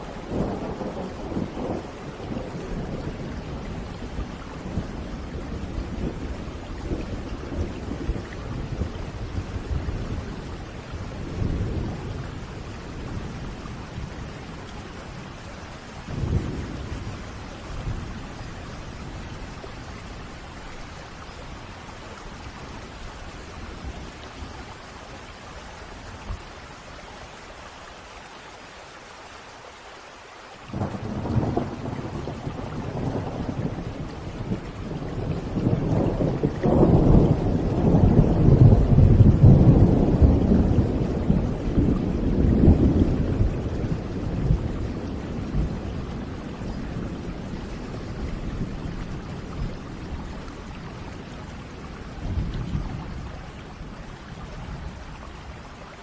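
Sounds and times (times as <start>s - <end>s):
thunder rumbling: 0.0s - 24.8s, 30.7s - 56.0s
heavy rain: 0.0s - 56.0s.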